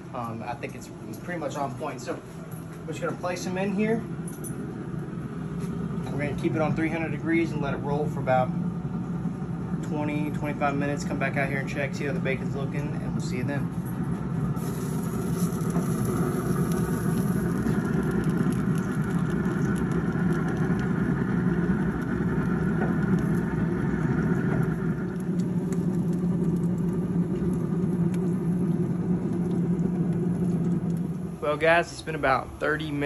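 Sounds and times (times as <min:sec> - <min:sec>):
high machine whine: 0:00.0 - 0:33.0
machine hum with low drone: 0:00.0 - 0:33.0.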